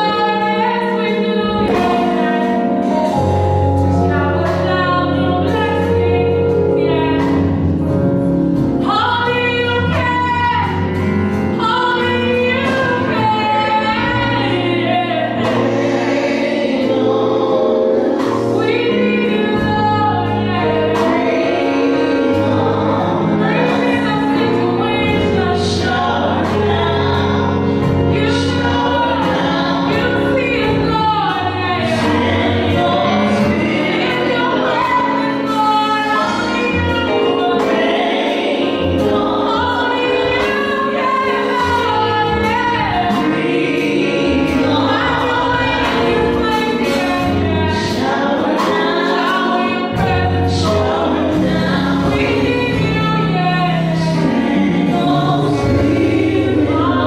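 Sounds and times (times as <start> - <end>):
keyboard: 0.0 - 57.0
women singing in harmony: 0.0 - 57.0
drum kit: 1.4 - 57.0.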